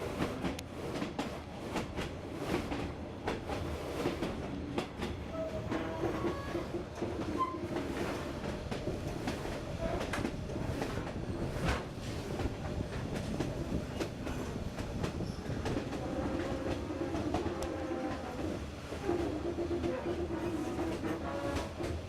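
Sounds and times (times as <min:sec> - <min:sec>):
train rumbling on track: 0:00.0 - 0:22.0.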